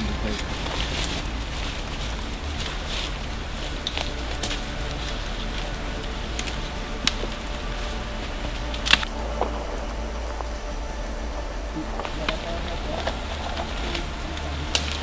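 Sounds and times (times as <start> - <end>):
dry leaves rustling: 0.0 - 15.0
twigs crackling and snapping: 0.0 - 15.0
wind rumble on microphone: 0.0 - 15.0.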